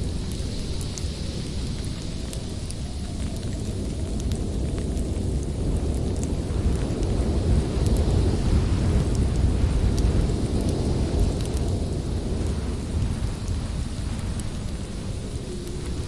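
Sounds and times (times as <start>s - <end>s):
storm wind rushing: 0.0s - 16.0s
wood fire crackles: 0.0s - 16.0s.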